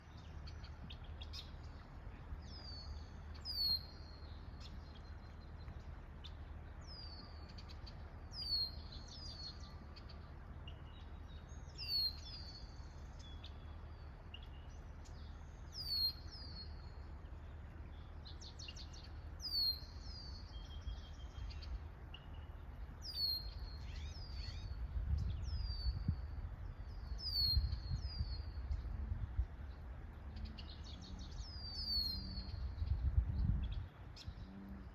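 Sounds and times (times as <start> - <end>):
faint bird chirps: 0.0 - 34.9
steady low rumble: 0.0 - 34.9.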